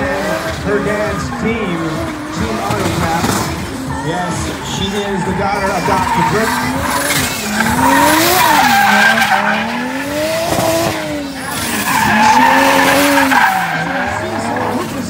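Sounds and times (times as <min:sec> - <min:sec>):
car engine revving: 0:00.0 - 0:15.0
tires skidding and squealing: 0:00.0 - 0:15.0.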